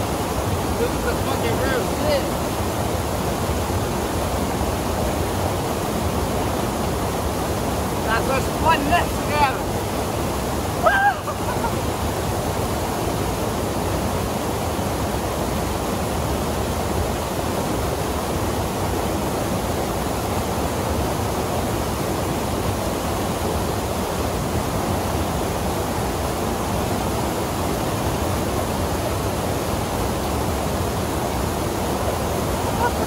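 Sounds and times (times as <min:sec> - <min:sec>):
rapids rushing over boulders: 0:00.0 - 0:33.0.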